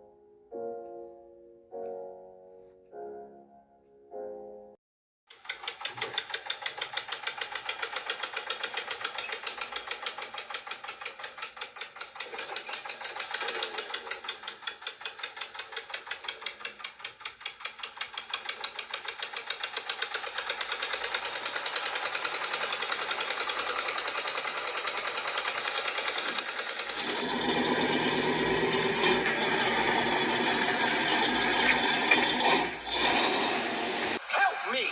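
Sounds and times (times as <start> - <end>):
small motor chattering: 5.3 - 34.2.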